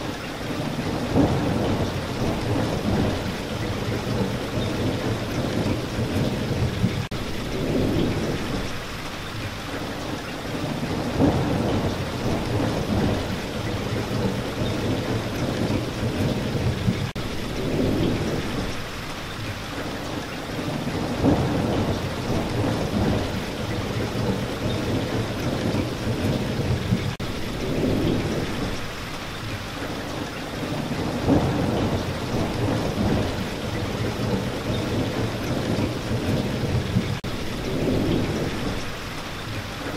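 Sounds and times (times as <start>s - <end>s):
heavy rain: 0.0s - 39.9s
low rolling thunder: 0.5s - 8.9s, 10.4s - 18.9s, 20.5s - 29.0s, 30.0s - 39.0s.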